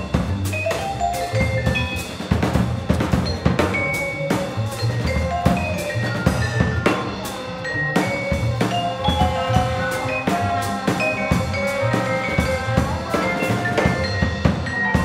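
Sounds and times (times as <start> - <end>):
double bass line: 0.0 - 15.0
drum kit playing: 0.0 - 15.0
vibraphone notes: 0.0 - 15.0.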